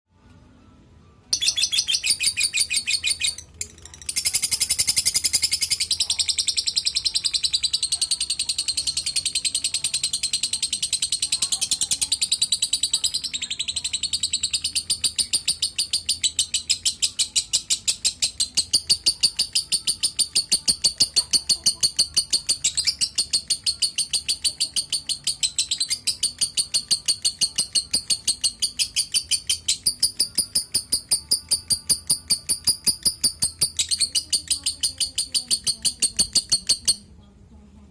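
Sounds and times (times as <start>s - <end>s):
lovebird chirping: 1.3s - 37.2s.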